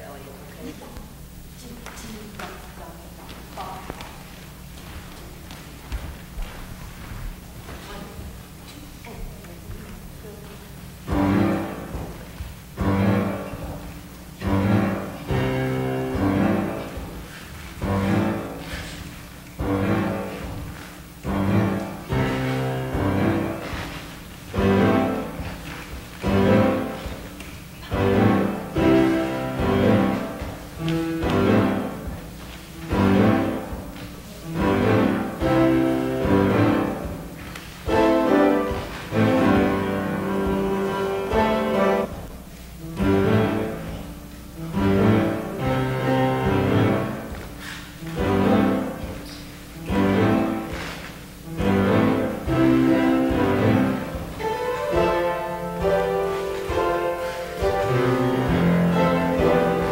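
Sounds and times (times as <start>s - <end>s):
instrumental dance class music: 0.0s - 59.9s.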